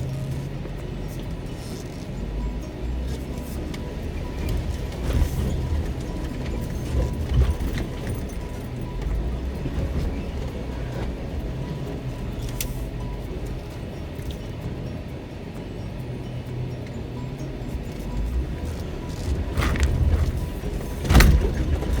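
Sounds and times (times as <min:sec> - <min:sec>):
vehicle engine running at low revs: 0:00.0 - 0:22.0.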